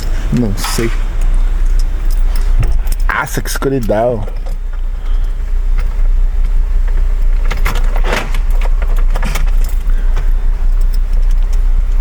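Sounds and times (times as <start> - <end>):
car keys jangling: 0.0 - 12.0
steady low rumble: 0.0 - 12.0.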